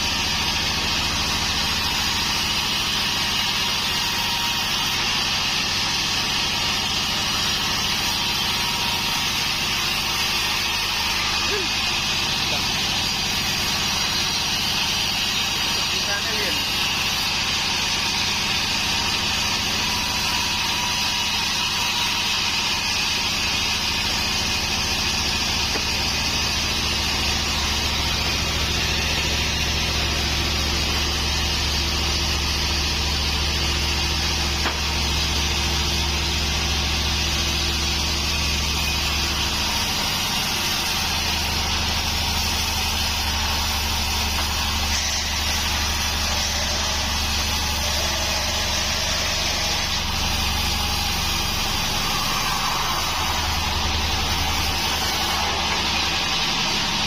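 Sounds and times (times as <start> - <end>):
band sawmill sawing log: 0.0 - 57.0
motor humming: 5.5 - 57.0.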